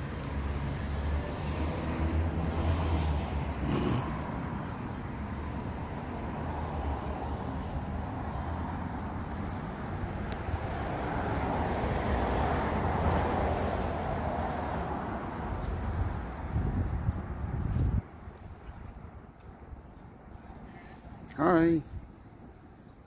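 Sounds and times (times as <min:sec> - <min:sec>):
hum of passing cars: 0:00.0 - 0:23.0.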